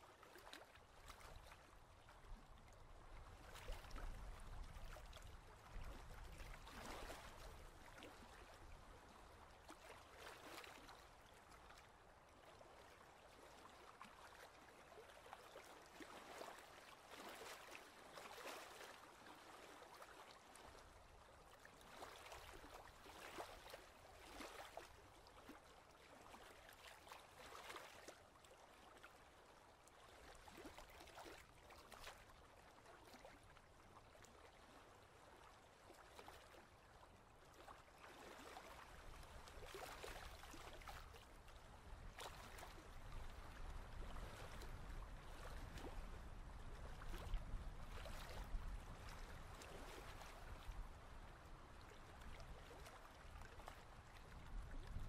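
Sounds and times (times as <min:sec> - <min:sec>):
small waves lapping on rocks: 0:00.2 - 0:11.7, 0:12.6 - 0:29.0, 0:29.9 - 0:55.0.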